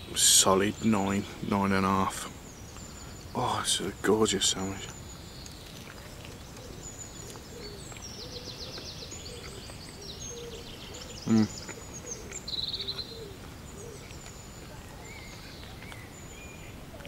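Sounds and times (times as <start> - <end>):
outdoor hiss: 0.0 - 17.0
songbirds chirping and trilling: 0.0 - 17.0.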